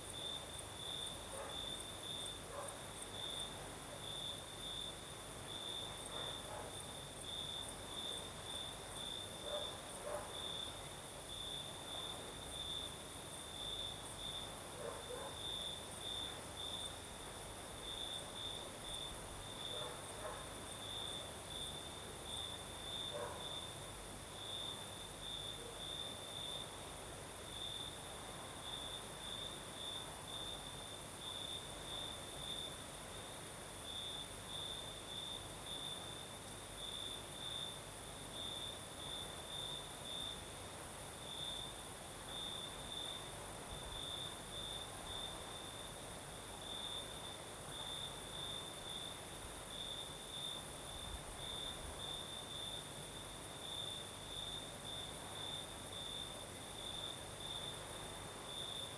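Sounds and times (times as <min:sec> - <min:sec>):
cricket chirping: 0:00.0 - 0:58.9.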